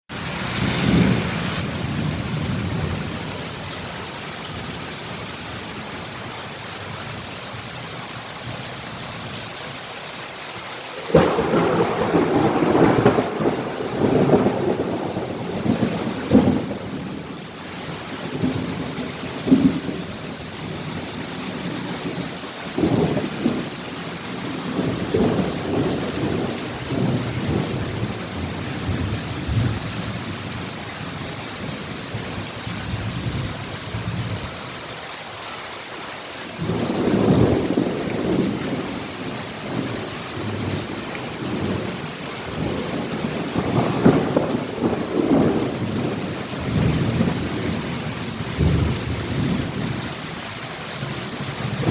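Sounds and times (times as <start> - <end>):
rain hissing: 0.1 - 51.9
thunder rumbling: 0.3 - 3.9, 11.0 - 34.5, 36.6 - 50.3, 51.0 - 51.9.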